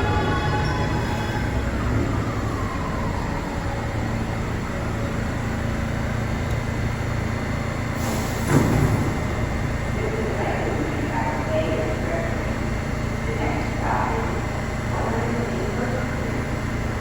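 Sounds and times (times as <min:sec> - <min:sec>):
subway train motors whining: 0:00.0 - 0:17.0
train rumbling on rails: 0:00.0 - 0:17.0.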